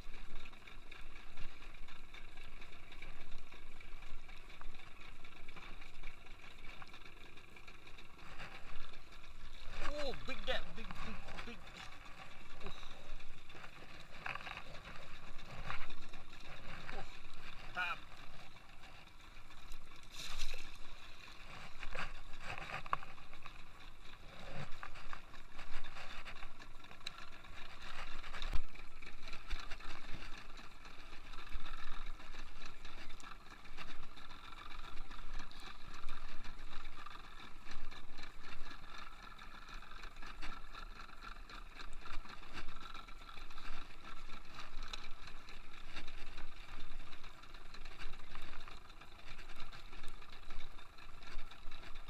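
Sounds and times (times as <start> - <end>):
water lapping against boat: 0.0 - 52.0.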